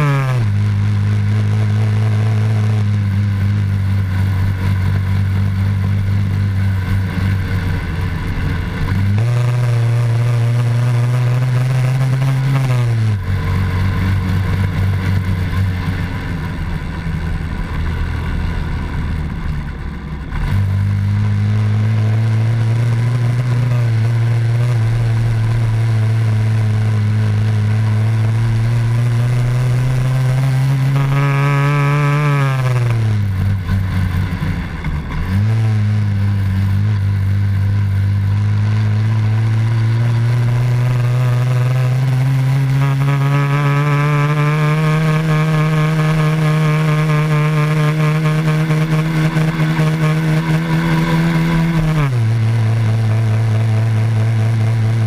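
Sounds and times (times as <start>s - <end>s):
motorbike engine: 0.0s - 55.0s.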